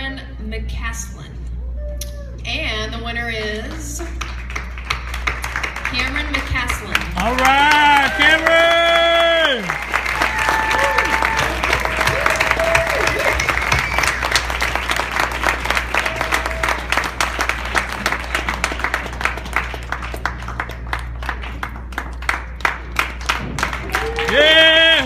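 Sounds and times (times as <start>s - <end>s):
audience applauding: 4.0s - 25.0s.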